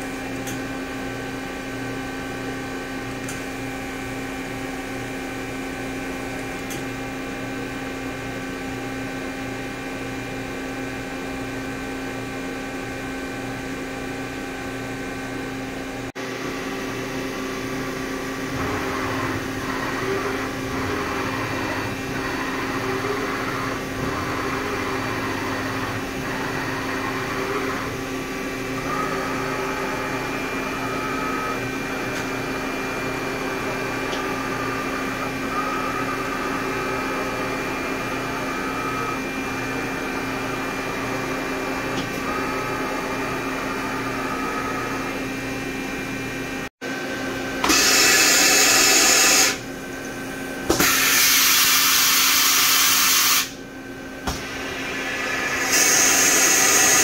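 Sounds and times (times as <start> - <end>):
machine shop equipment hum: 0.0 - 57.0.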